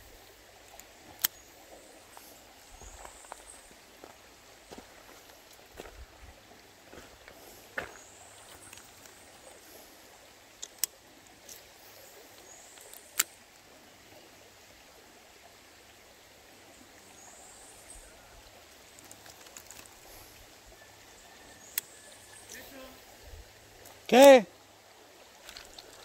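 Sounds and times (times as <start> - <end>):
river flowing over gravel: 0.0 - 26.0.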